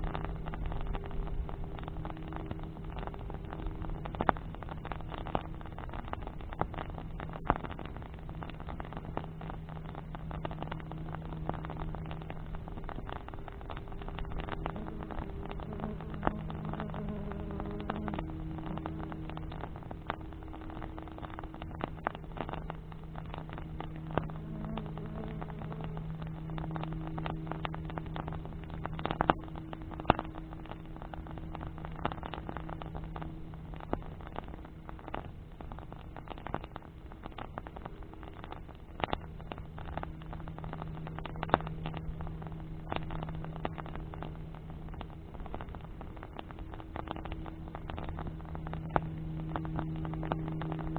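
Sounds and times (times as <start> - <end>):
low engine hum: 0.0 - 35.2, 39.0 - 50.9
bonfire crackling and popping: 0.0 - 50.9.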